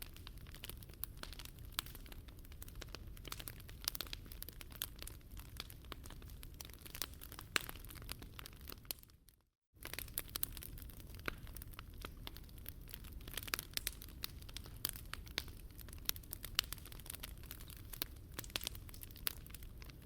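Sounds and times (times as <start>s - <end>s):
wood fire crackling: 0.0s - 9.2s, 9.8s - 20.0s.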